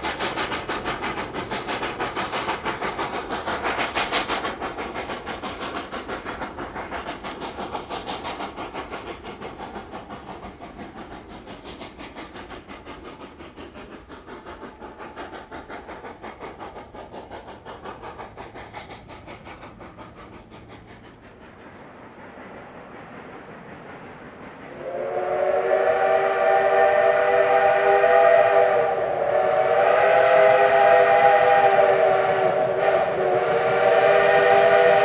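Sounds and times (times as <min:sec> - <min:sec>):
steam train clattering on track: 0:00.0 - 0:35.0.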